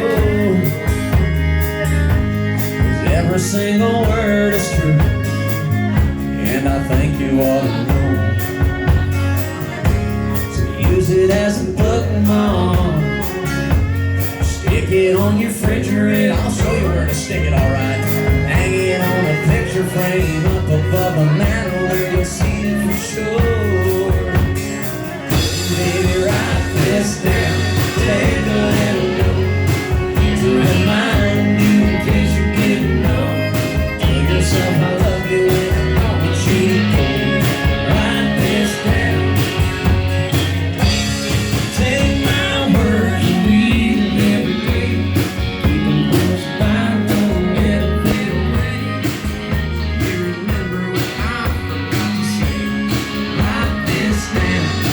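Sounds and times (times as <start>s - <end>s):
country band playing: 0.0s - 54.9s
drums keeping a steady beat: 0.0s - 54.9s
electric guitar: 0.0s - 54.9s.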